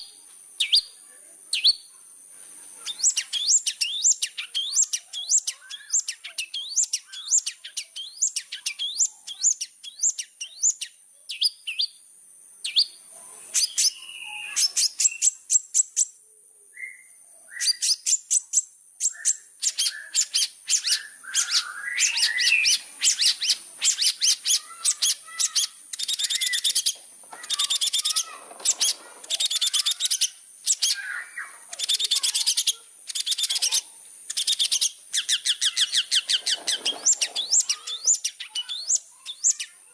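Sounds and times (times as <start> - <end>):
shrike chattering song: 2.8 - 12.0, 12.6 - 16.2, 17.6 - 39.8.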